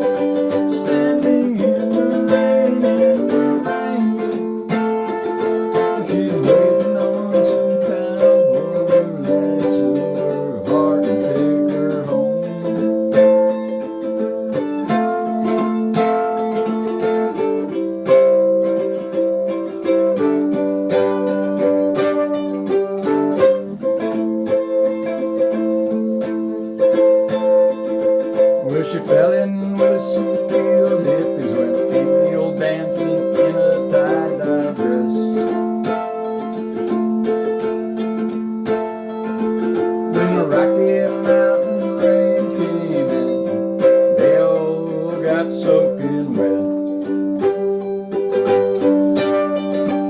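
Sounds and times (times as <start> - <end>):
mandolin picking bluegrass: 0.0 - 50.0.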